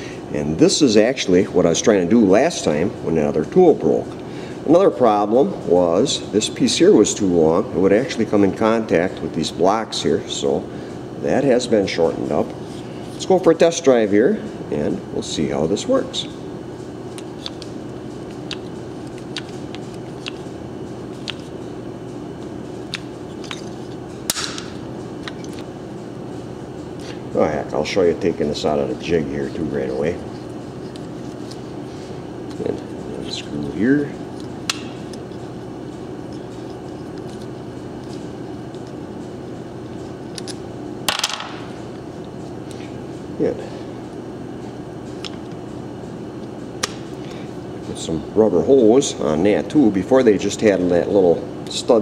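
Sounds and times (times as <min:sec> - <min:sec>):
workshop hum: 0:00.0 - 0:52.0.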